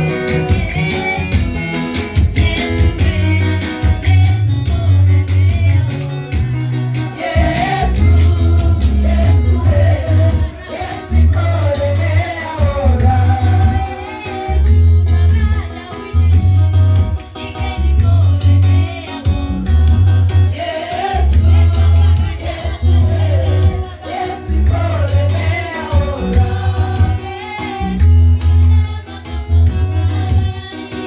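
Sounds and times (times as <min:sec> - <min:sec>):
heavy rhythmic bass beat: 0:00.0 - 0:30.7
gospel singing: 0:00.0 - 0:31.0.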